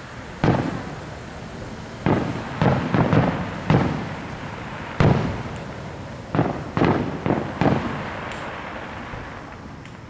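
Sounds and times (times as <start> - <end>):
faint fireworks crackles: 0.0 - 10.0
fireworks bursts rumbling: 0.0 - 10.0.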